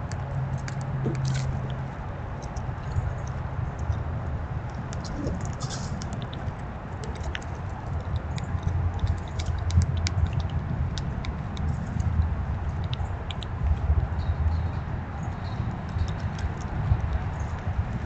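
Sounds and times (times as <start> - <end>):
squirrels cracking seeds: 0.0 - 18.0.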